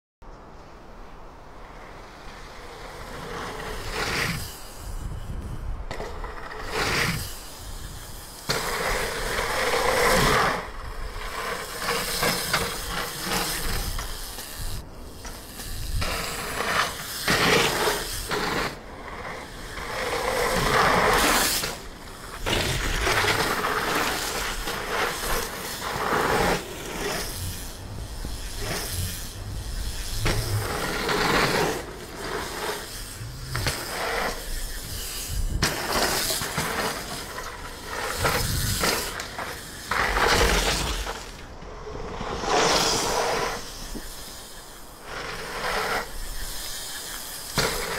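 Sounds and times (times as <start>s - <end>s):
bike tyres skidding on dirt: 1.5s - 47.9s.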